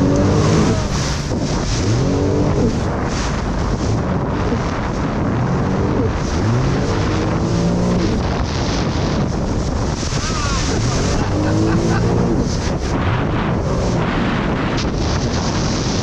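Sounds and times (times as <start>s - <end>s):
jet ski engine revving: 0.0s - 16.0s
wind buffeting microphone: 0.0s - 16.0s.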